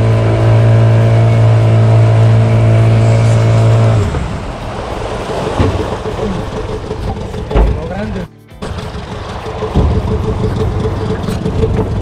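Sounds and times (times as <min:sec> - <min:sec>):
boat outboard motor running: 0:00.0 - 0:12.0
rushing water and wind: 0:00.0 - 0:12.0.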